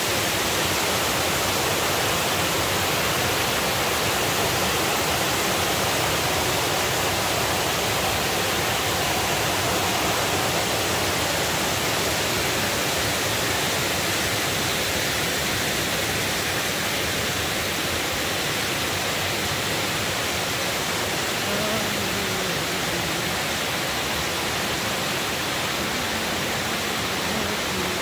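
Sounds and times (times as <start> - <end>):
water crashing over dam spillway: 0.0 - 28.0.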